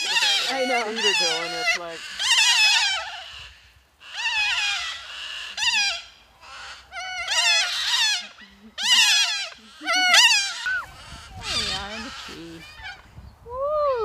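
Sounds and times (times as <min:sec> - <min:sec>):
parrots calling: 0:00.0 - 0:13.1.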